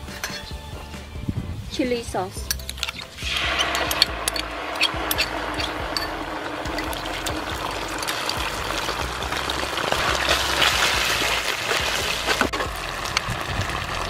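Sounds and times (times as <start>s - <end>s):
food sizzling in hot oil: 2.7s - 14.0s.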